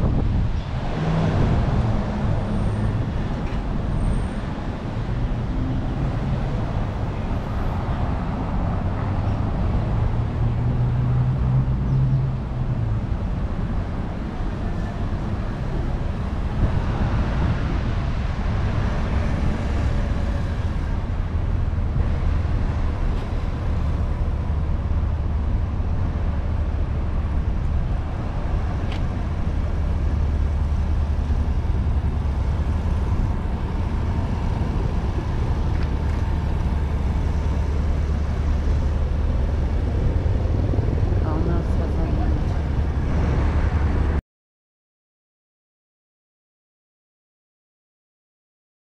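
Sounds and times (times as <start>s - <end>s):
cars passing: 0.0s - 44.2s
low traffic rumble: 0.0s - 44.2s.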